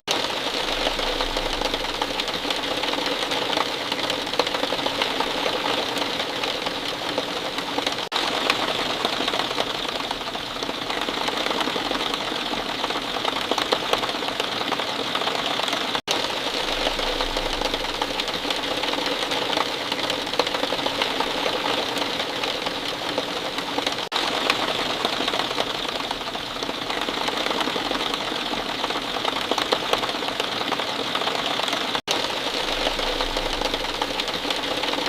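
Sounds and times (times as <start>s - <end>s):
steady rain patter: 0.1s - 35.0s.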